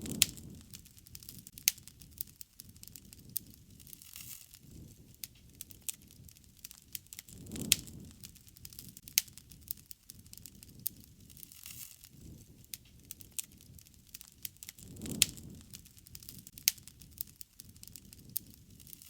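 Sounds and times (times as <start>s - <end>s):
burning wood popping: 0.0s - 19.0s
low rumble of flames: 0.0s - 19.0s.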